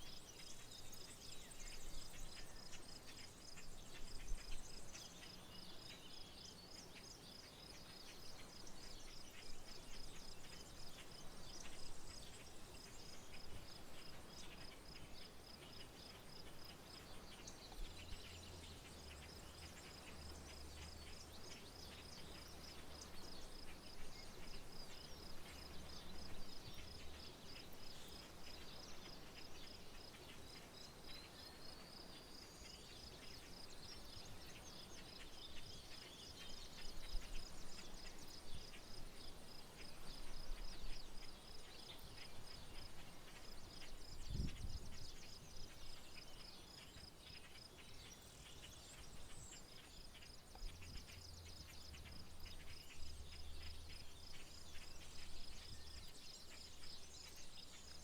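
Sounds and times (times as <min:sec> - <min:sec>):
bird chirps: 0:00.0 - 0:58.0.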